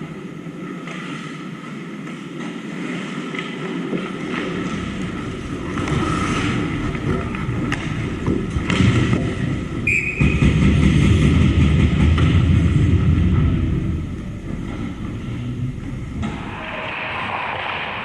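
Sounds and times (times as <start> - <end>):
rumbling din in ice rink: 0.0 - 18.0.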